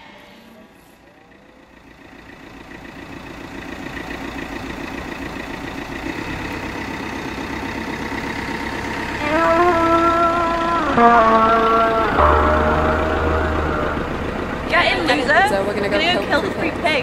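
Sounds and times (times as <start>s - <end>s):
car engine running: 0.6s - 17.0s.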